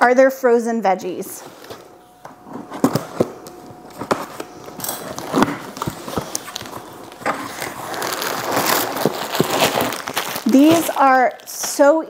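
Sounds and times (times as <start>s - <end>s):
plastic bag rustling: 1.2s - 12.0s.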